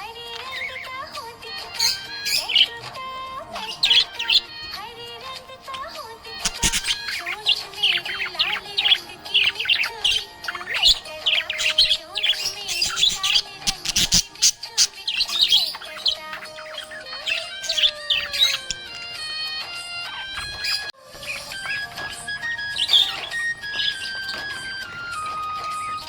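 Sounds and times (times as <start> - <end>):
budgerigar chirping and warbling: 0.0 - 26.0
soft background music: 0.0 - 26.0.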